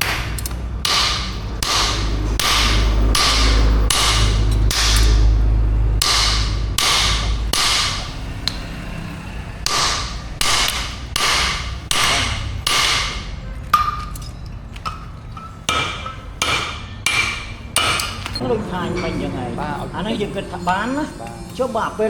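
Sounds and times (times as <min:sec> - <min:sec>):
hammer striking metal on anvil: 0:00.0 - 0:08.8, 0:09.6 - 0:19.4.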